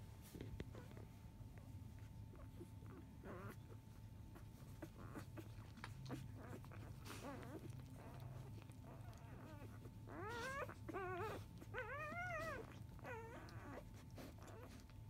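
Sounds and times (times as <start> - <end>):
puppies whining: 0.6 - 15.0.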